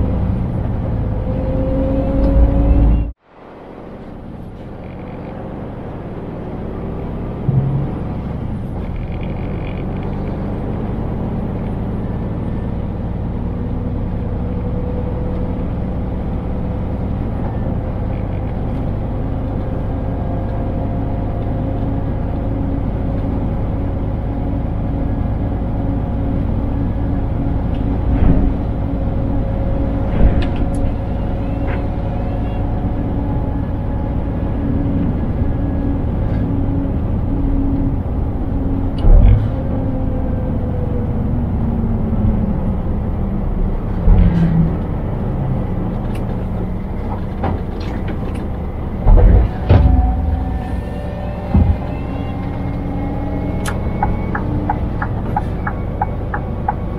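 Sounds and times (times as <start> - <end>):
truck diesel engine droning: 0.0 - 56.9.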